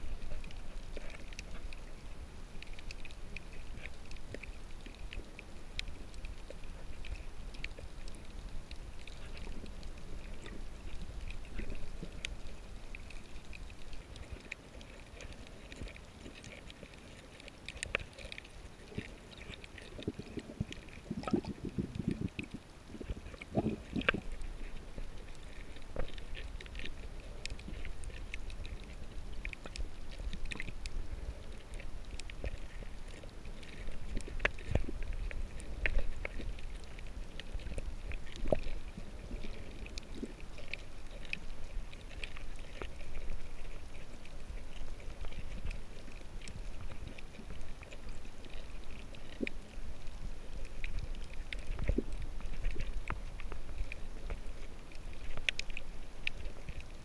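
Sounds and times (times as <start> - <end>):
underwater clicks and crackles: 0.0 - 57.0
underwater rumble and wash: 0.0 - 57.0.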